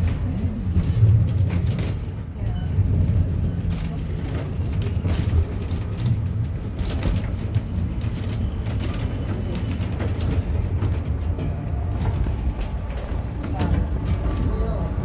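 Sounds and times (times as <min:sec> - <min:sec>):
funicular car rumbling: 0:00.0 - 0:15.0.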